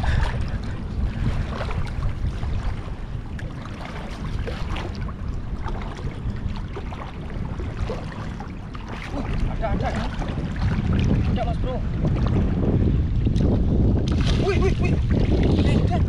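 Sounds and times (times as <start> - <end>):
water splashing and sloshing: 0.0 - 16.0
wind rumbling on microphone: 0.0 - 16.0.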